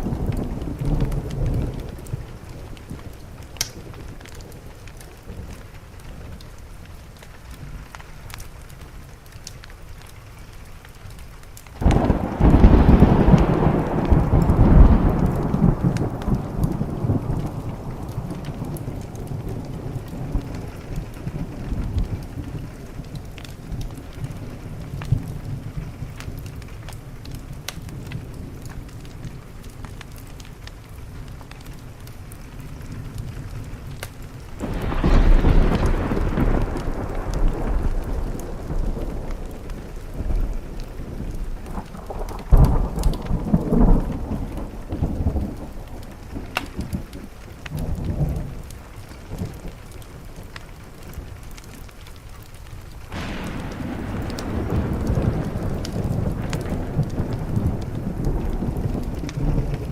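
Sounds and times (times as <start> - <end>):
rolling thunder: 0.0 - 6.9, 11.8 - 52.0, 52.9 - 59.9
rain against a window: 0.0 - 59.9.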